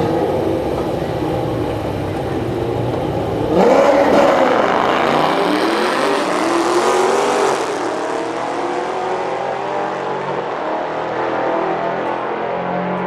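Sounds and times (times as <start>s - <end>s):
cars accelerating at full throttle: 0.0s - 13.0s.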